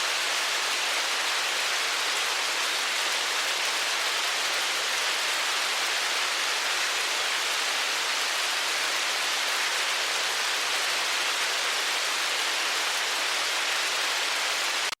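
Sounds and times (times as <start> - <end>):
hail and rain falling: 0.0 - 15.0.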